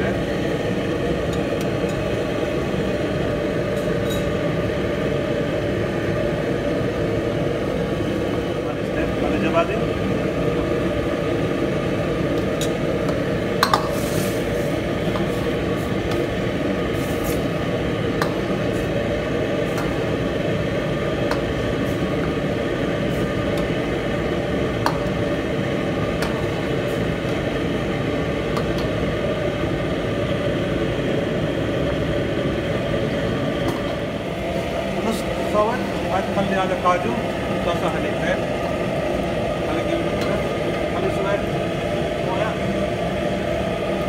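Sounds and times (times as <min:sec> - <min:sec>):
low kitchen roar: 0:00.0 - 0:44.0.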